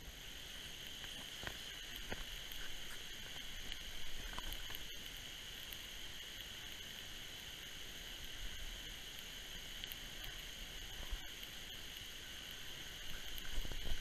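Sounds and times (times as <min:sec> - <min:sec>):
small water pump whining: 0:00.0 - 0:14.0.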